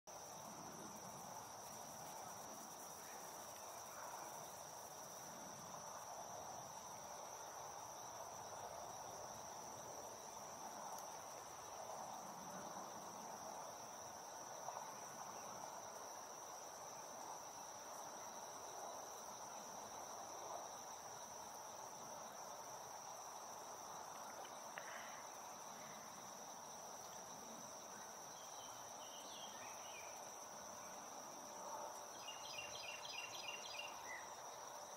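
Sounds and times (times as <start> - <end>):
insect chorus drone: 0.1 - 34.9
outdoor background noise: 0.1 - 34.9.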